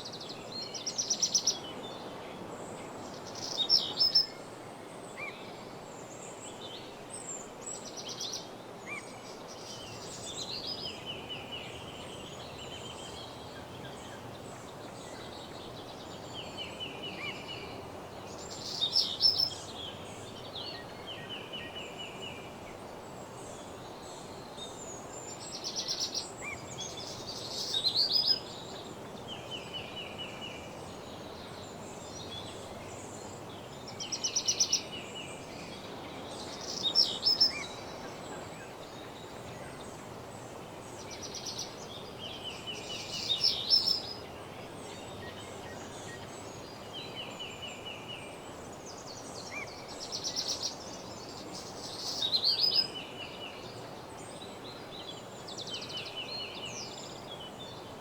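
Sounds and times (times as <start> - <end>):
songbirds singing: 0.0 - 58.0
steady background hiss: 0.0 - 58.0.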